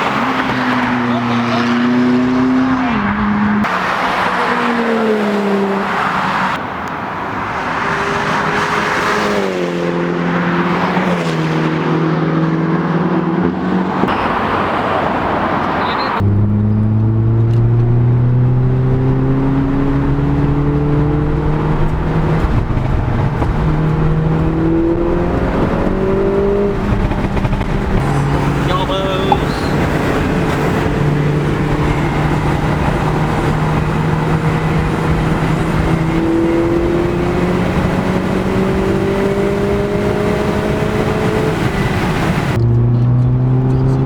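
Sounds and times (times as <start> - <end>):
car engine revving through gears: 0.0 - 6.6, 7.5 - 44.0
road and wind noise: 0.0 - 44.0.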